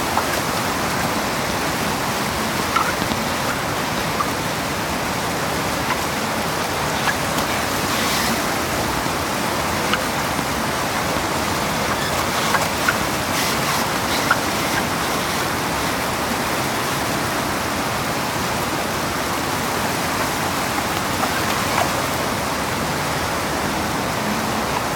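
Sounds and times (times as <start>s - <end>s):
river rapids rushing: 0.0s - 24.9s.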